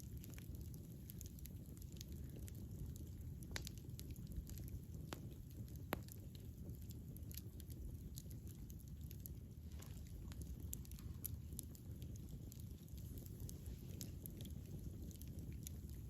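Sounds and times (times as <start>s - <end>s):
campfire crackling and popping: 0.0s - 16.0s
fire low rumble: 0.0s - 16.0s.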